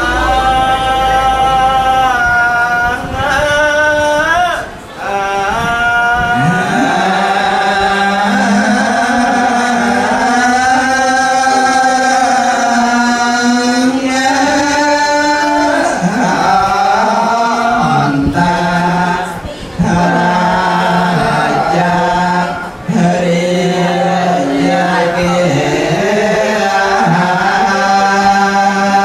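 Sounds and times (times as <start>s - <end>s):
man chanting melodically: 0.0s - 29.0s.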